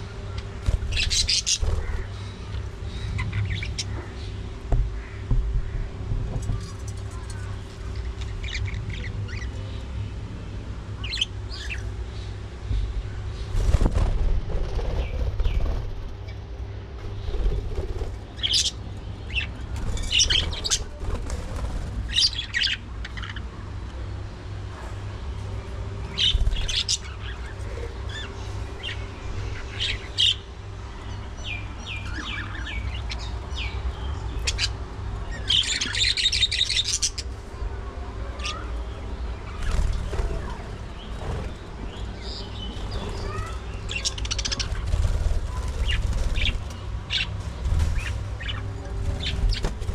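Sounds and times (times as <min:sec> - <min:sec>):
faint hum: 0:00.0 - 0:49.9
steady low rumble: 0:00.0 - 0:49.9.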